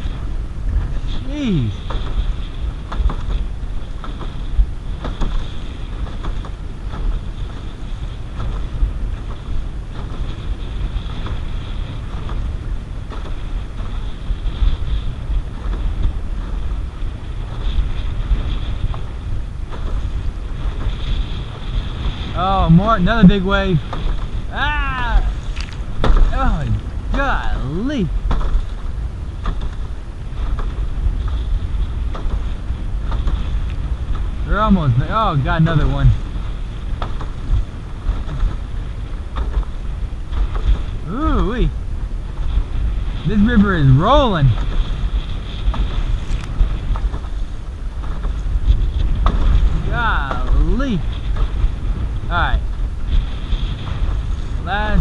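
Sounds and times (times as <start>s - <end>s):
waves splashing against canoe hull: 0.0s - 55.0s
wind buffeting microphone: 0.0s - 55.0s.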